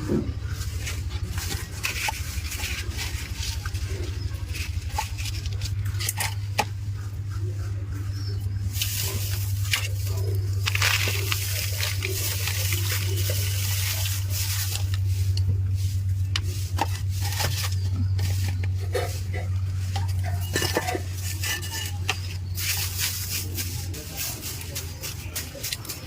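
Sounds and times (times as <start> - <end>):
hard objects clinking and rattling: 0.0 - 6.9, 8.6 - 15.5, 16.7 - 26.0
steady low hum: 0.0 - 26.0.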